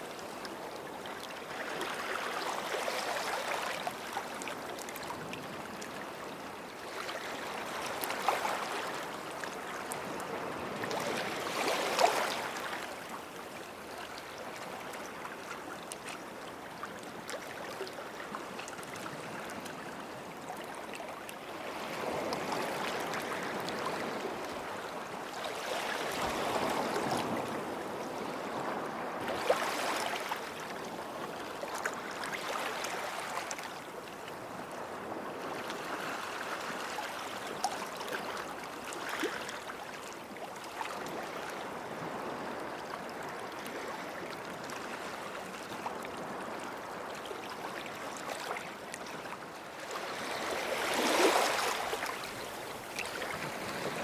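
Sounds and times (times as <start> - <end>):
small waves washing on beach: 0.0 - 54.0.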